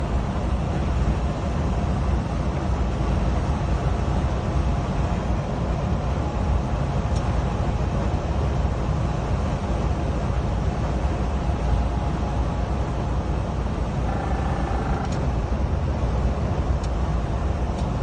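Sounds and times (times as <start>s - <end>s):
road noise: 0.0s - 18.0s
truck diesel engine drone: 0.0s - 18.0s.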